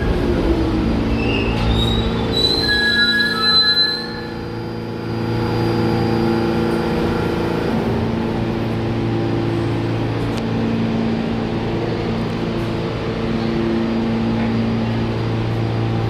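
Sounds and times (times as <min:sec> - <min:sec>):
subway train humming: 0:00.0 - 0:16.0.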